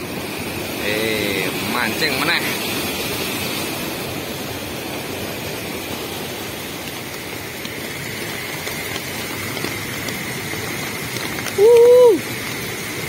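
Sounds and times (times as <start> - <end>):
flooding river rushing: 0.0 - 13.0
heavy rain falling: 0.0 - 13.0.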